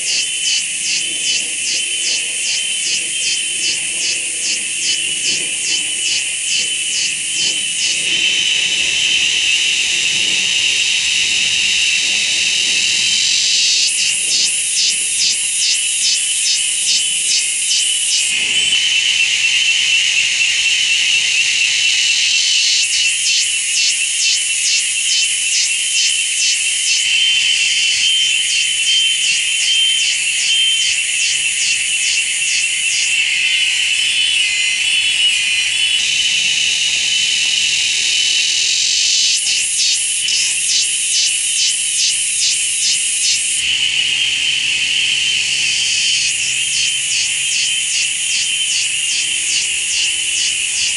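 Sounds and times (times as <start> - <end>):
cicada buzzing: 0.0 - 50.9.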